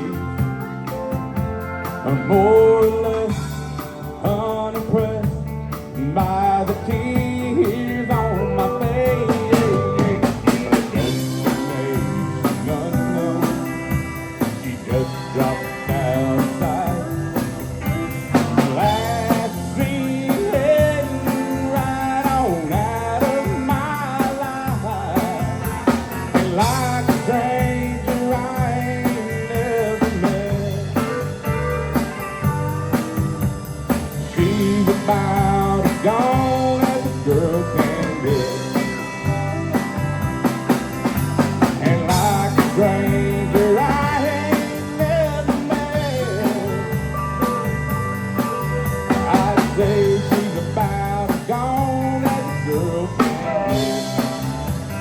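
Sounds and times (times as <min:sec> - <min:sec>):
country band playing: 0:00.0 - 0:55.0.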